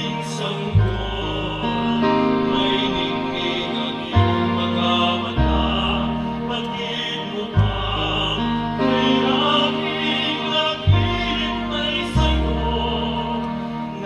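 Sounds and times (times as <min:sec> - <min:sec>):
choir singing slow song: 0:00.0 - 0:14.0
bass guitar low notes: 0:00.7 - 0:06.8, 0:07.5 - 0:10.2, 0:10.8 - 0:14.0.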